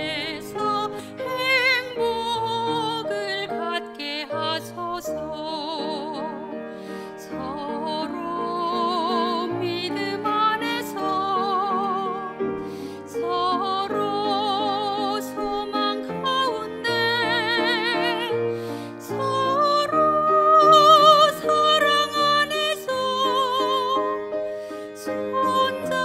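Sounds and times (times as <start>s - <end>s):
soprano singing sacred song: 0.0s - 6.6s, 7.2s - 24.3s, 24.9s - 26.0s
piano accompaniment: 0.0s - 26.0s.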